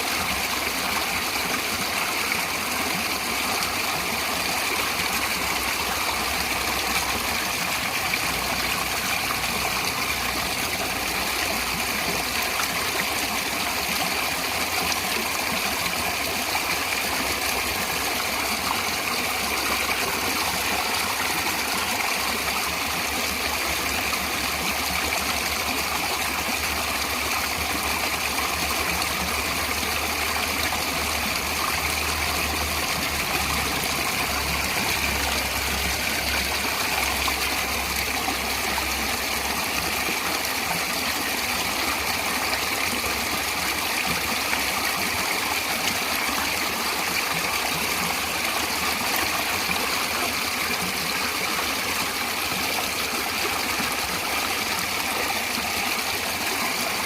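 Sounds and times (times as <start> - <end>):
stream flowing and rushing: 0.0 - 57.0.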